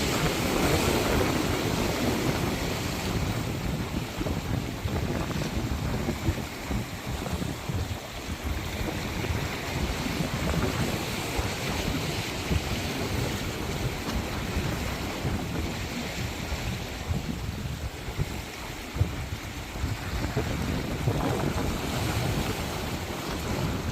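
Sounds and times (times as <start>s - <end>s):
sea waves washing on shore: 0.0s - 23.9s
wind buffeting microphone: 0.0s - 23.9s.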